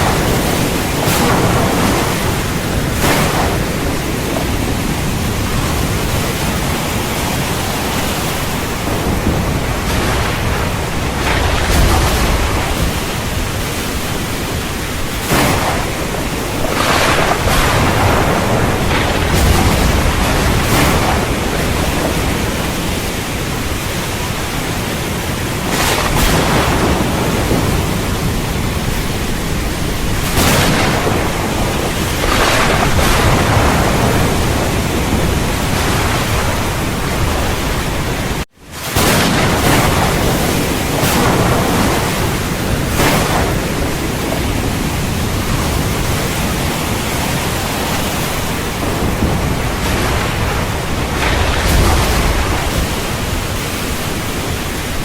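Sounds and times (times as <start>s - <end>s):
thunder: 0.0s - 24.8s, 25.5s - 55.0s
heavy rain: 0.0s - 55.0s.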